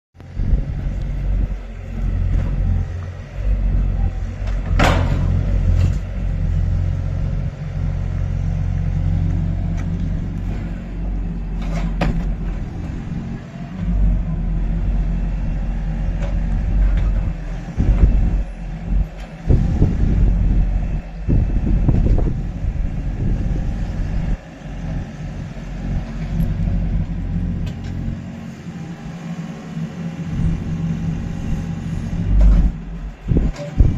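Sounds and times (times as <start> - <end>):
diesel engine rumbling: 0.2 - 33.9.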